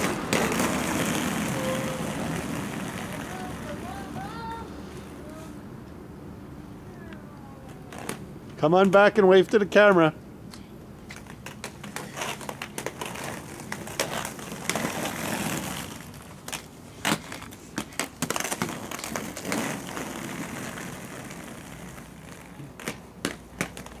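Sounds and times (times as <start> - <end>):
skate clicks and knocks: 0.0 - 5.4, 7.1 - 10.1, 11.0 - 24.0
roller skate wheels rolling: 0.0 - 6.0, 6.9 - 10.2, 10.9 - 24.0.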